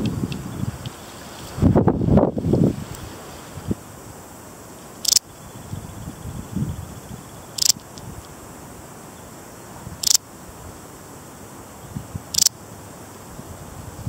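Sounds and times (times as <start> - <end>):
bush-cricket high-pitched chirps: 0.0 - 14.0.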